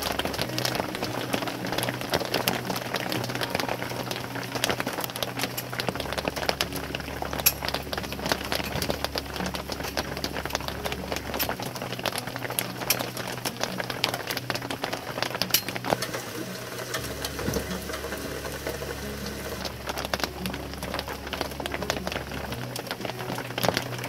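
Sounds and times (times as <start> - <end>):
rain pattering: 0.0 - 24.0.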